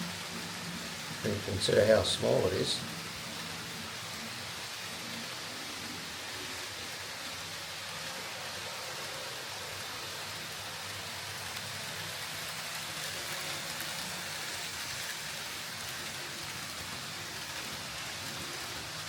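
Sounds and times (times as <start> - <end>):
model train wheels rolling on rails: 0.0 - 19.0.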